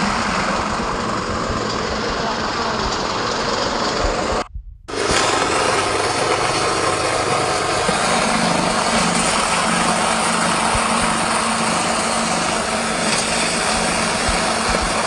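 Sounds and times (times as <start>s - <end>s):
feed mixer motor running: 0.0s - 15.0s.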